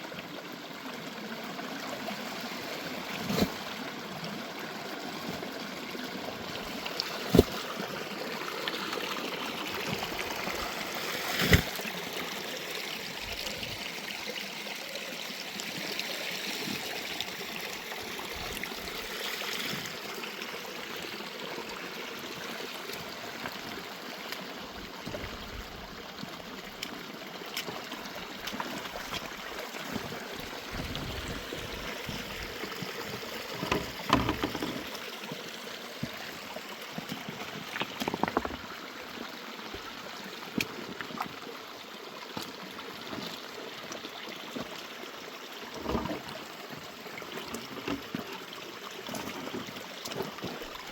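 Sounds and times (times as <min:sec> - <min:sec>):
mountain stream rushing: 0:01.6 - 0:50.9.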